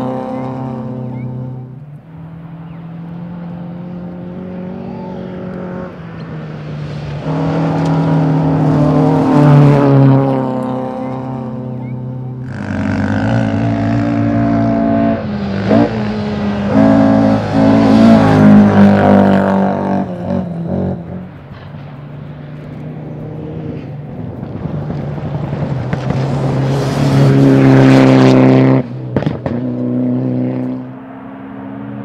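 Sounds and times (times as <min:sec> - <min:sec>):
car engine approaching: 0:00.0 - 0:32.0
rally car engine accelerating: 0:00.0 - 0:32.0.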